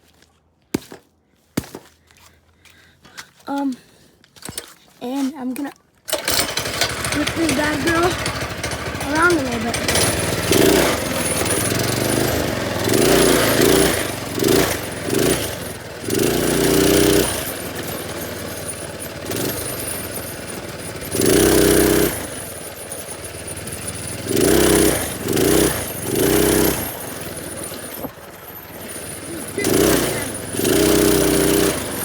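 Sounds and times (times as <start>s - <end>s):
minibike engine revving: 6.1s - 32.0s.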